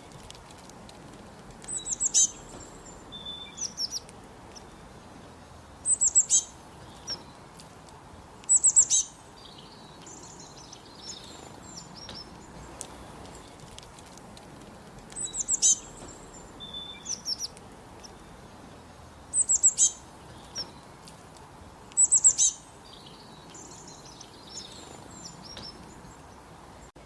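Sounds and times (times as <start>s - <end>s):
bird chirps: 0.0s - 27.0s
bird singing whistled notes: 1.6s - 7.5s, 8.4s - 13.8s, 15.0s - 21.0s, 21.8s - 27.0s.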